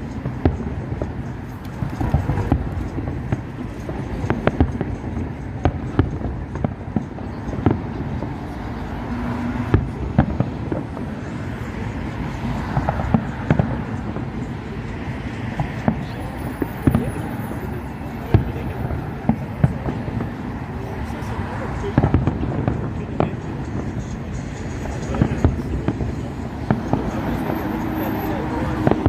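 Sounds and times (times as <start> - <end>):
distant fireworks bangs and crackles: 0.0 - 29.0.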